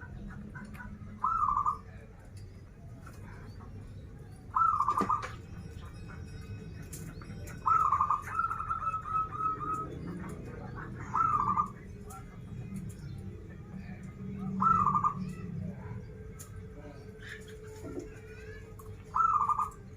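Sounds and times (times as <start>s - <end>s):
dove cooing: 0.0s - 2.2s, 3.1s - 19.9s.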